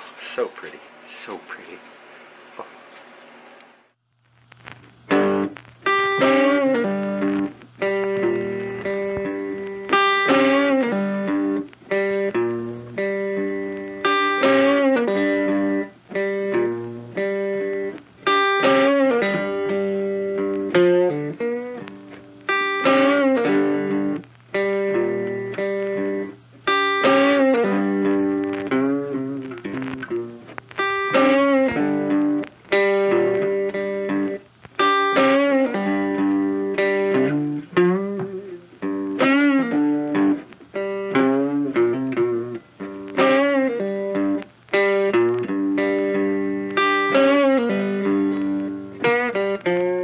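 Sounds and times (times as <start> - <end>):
guitar picking notes: 4.7 - 50.0.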